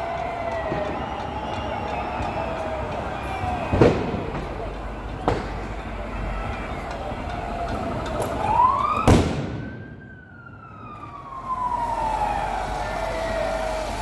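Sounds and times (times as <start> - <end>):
siren wailing: 0.0 - 4.4, 6.2 - 14.0.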